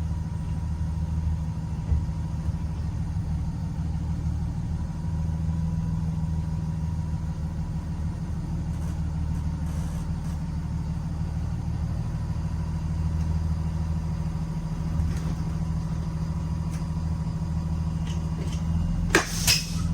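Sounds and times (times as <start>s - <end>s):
bus engine idling: 0.0s - 19.9s.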